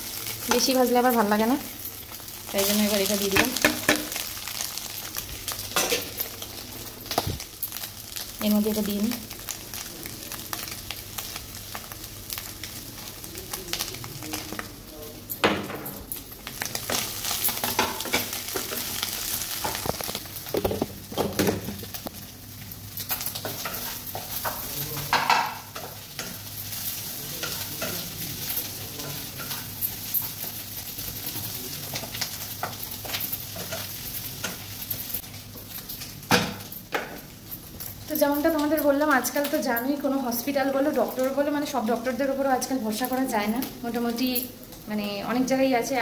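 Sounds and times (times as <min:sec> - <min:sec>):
food sizzling: 0:00.0 - 0:46.0.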